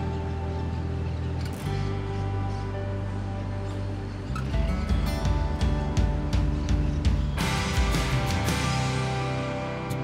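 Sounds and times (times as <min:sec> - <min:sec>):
guitar instrumental music: 0:00.0 - 0:10.0.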